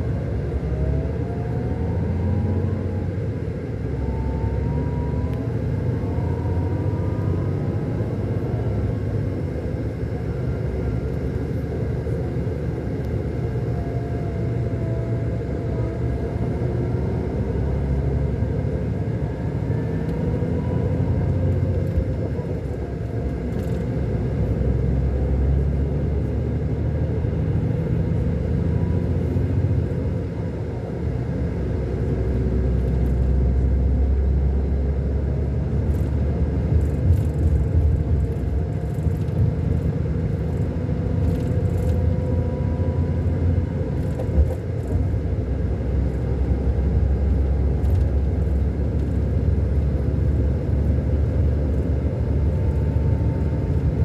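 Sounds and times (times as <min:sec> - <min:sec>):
diesel engine rumbling: 0:00.0 - 0:54.0.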